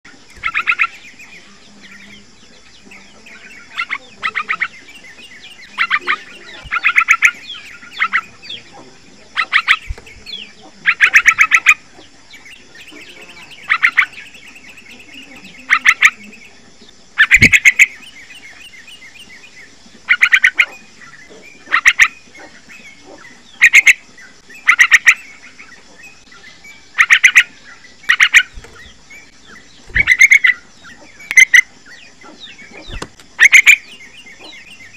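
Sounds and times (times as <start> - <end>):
bird chattering calls: 0.2 - 34.9.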